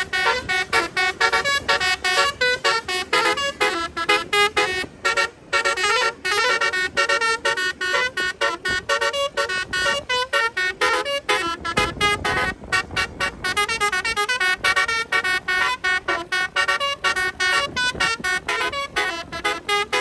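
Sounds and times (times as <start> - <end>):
musical air horns playing melody: 0.0 - 20.0.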